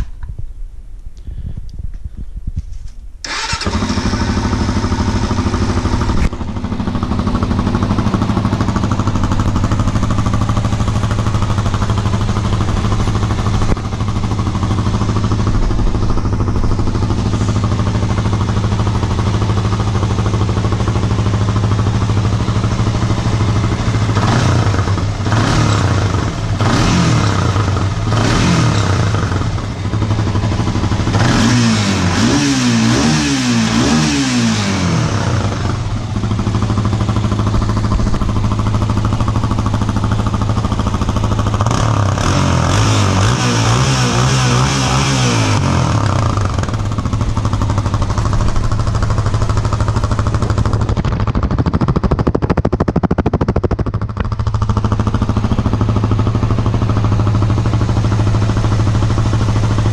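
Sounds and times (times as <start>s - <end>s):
quad engine idling and revving: 3.3s - 59.9s.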